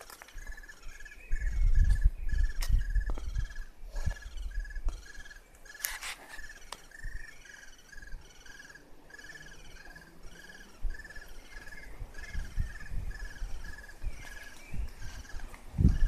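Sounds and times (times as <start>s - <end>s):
little birds chirping: 0.0s - 16.0s.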